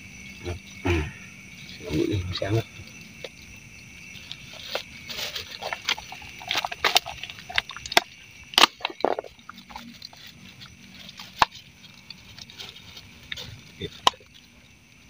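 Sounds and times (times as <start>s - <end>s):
rustling of dry leaves and cloth: 0.2s - 15.0s.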